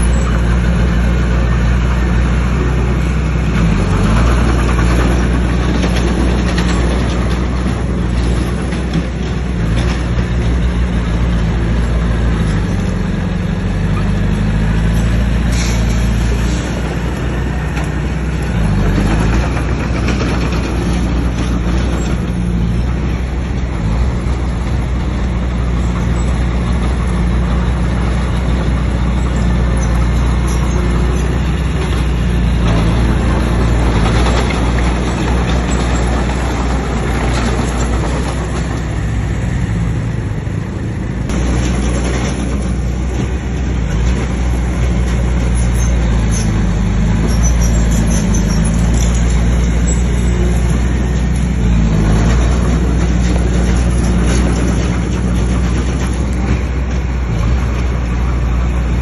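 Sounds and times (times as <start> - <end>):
bulldozer diesel engine running: 0.0 - 59.0
machine rumble and clatter: 0.0 - 59.0.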